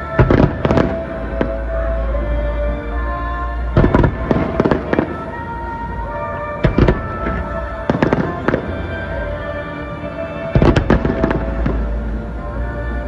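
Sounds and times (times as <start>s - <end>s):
steady music: 0.0s - 13.0s.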